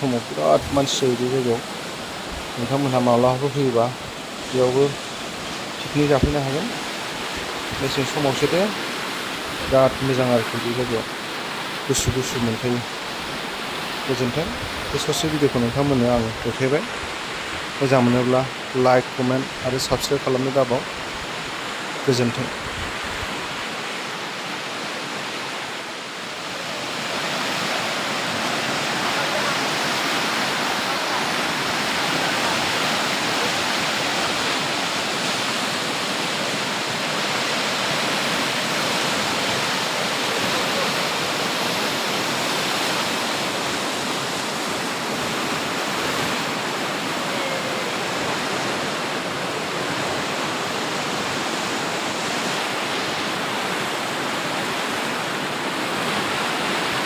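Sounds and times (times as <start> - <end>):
water rushing through dam gates: 0.0 - 57.0.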